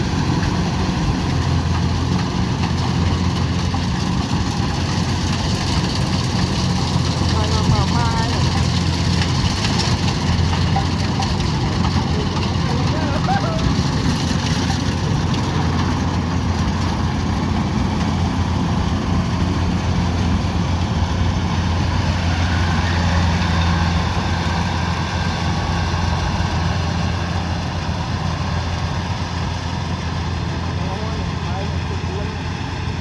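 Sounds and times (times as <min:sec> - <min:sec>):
combine harvester diesel engine: 0:00.0 - 0:33.0.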